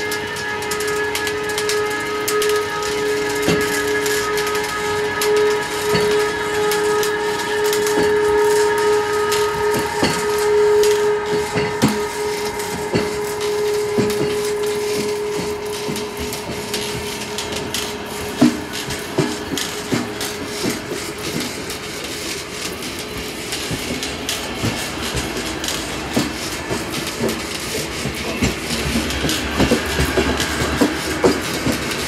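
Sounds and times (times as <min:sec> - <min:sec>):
train electric whine: 0:00.0 - 0:32.0
wheels clicking over rail joints: 0:00.0 - 0:32.0.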